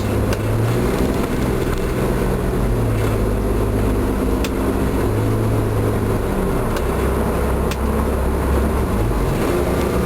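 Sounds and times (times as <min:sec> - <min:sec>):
engine drone: 0:00.0 - 0:10.0
road noise inside car cabin: 0:00.0 - 0:10.0.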